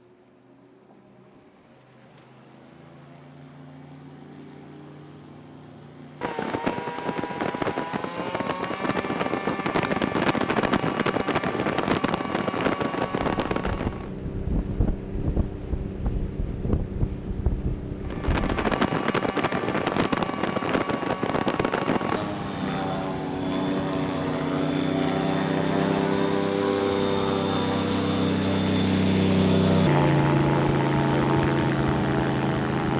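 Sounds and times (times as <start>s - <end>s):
engines droning: 0.0s - 32.9s.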